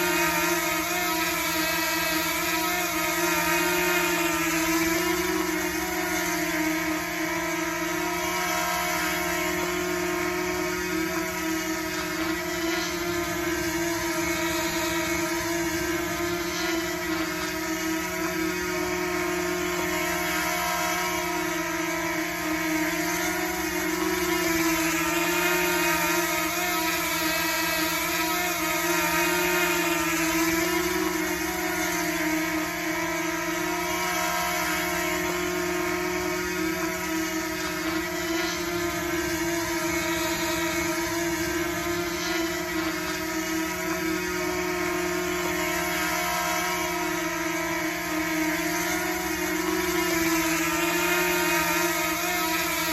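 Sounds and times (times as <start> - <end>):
drone propellers buzzing: 0.0 - 52.9.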